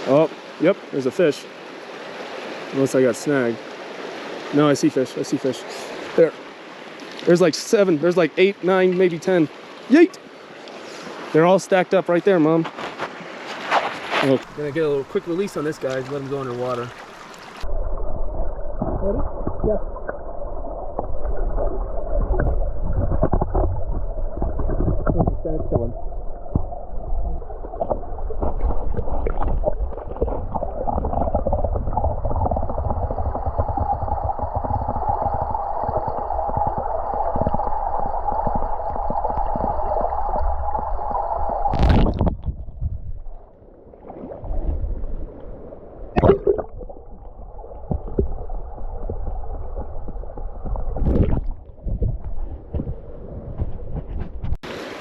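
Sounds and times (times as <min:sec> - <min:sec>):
underwater creek rushing: 0:00.0 - 0:55.0.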